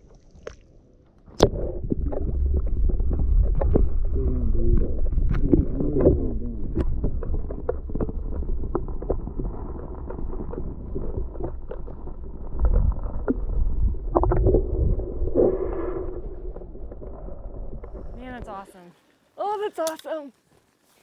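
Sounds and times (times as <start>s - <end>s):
wind rumbling on microphone: 1.3s - 18.8s.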